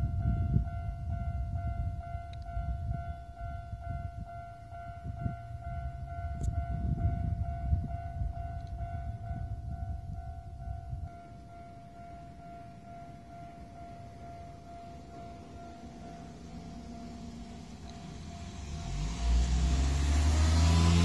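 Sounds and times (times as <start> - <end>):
low rumble: 0.0 - 21.0
level crossing alarm bell: 0.1 - 19.4.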